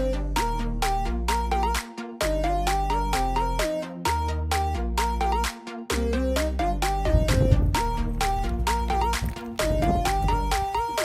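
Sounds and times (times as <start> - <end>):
electronic music with synth melody: 0.0 - 11.0.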